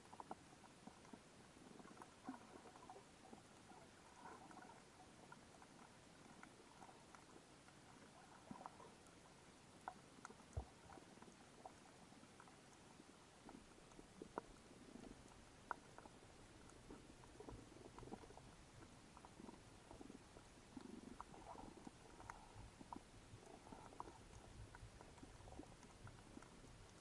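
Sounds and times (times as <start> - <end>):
low steady hiss: 0.0 - 27.0
soft underwater clicks and crackles: 0.0 - 27.0.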